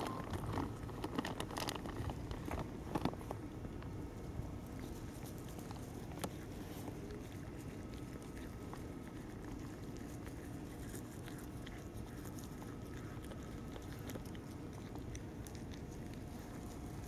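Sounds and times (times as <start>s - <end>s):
cat chewing food: 0.0s - 17.0s
low background noise: 0.0s - 17.0s.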